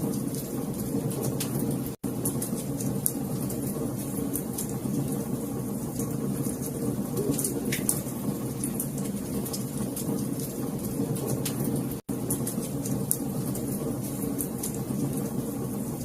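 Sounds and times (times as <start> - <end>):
fire crackling and popping: 0.0 - 16.0
fire flame rumble: 0.0 - 16.0.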